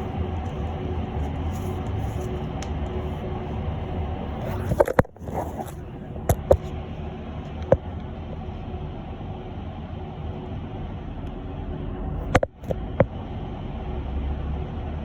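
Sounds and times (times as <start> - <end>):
bus road rumble: 0.0 - 15.0.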